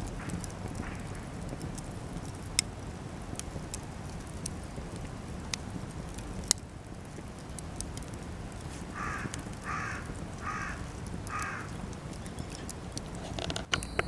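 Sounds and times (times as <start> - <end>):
campfire crackling and popping: 0.0 - 14.0
low steady rush of fire: 0.0 - 14.0.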